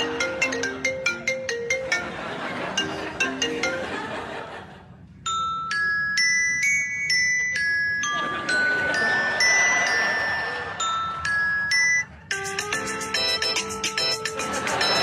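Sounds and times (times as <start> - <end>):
glockenspiel-like chiming notes: 0.0 - 4.4, 5.2 - 15.0
marimba ringtone melody: 0.0 - 4.4, 5.3 - 15.0.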